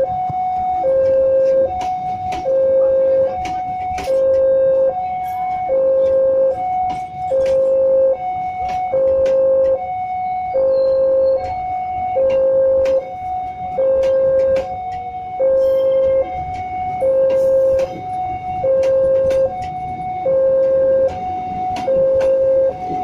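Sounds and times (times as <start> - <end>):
level crossing two-tone alarm: 0.0 - 23.0.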